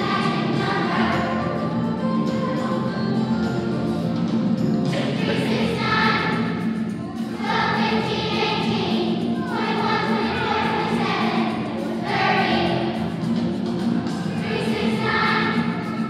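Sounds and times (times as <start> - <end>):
children's choir singing: 0.0 - 16.0
instrumental accompaniment: 0.0 - 16.0.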